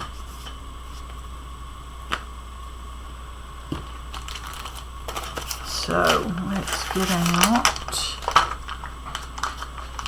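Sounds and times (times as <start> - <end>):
low microphone hum: 0.0 - 10.0.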